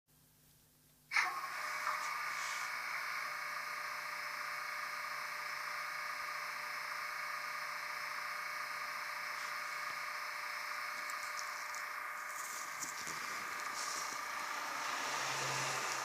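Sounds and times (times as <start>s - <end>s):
model locomotive engine sound: 1.1s - 16.0s
low hum: 1.2s - 16.0s.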